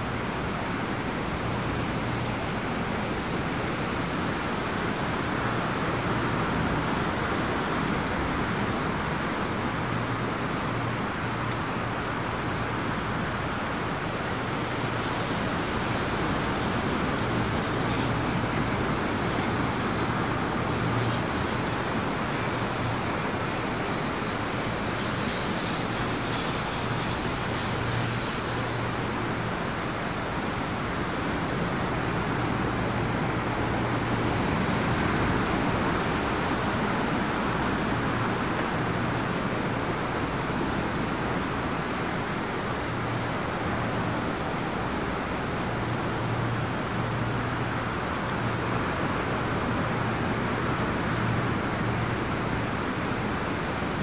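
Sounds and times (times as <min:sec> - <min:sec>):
wind and tyre noise: 0:00.0 - 0:54.0.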